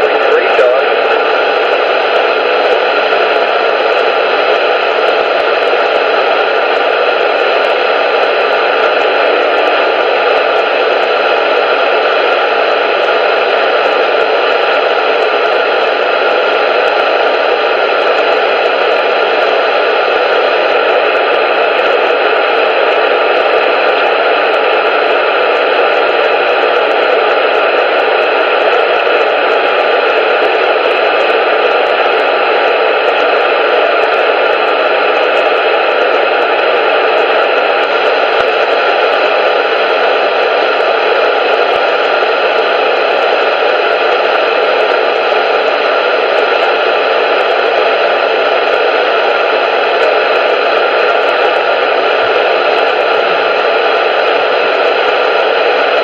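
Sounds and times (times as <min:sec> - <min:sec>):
static hiss: 0:00.0 - 0:56.0.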